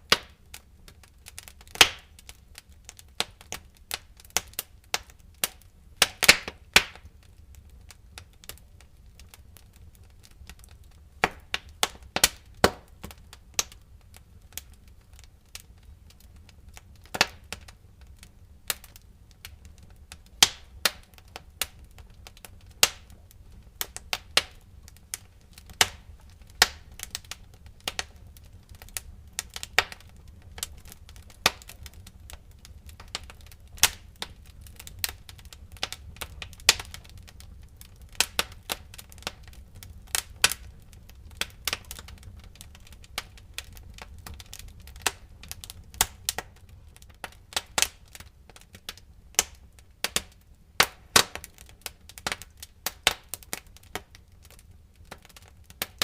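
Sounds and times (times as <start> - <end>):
firewood crackling and popping: 0.0 - 56.0
low steady fire rumble: 0.0 - 56.0.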